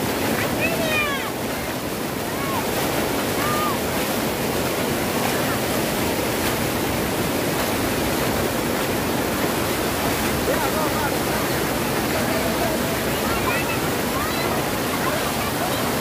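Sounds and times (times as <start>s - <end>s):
water rushing over weir: 0.0s - 16.0s.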